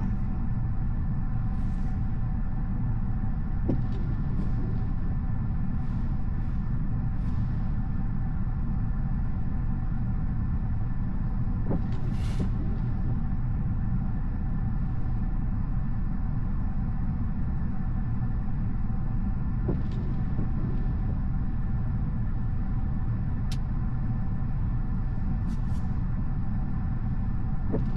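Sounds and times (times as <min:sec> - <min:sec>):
tyre and road noise in car cabin: 0:01.0 - 0:10.2, 0:11.0 - 0:16.0, 0:18.7 - 0:27.9.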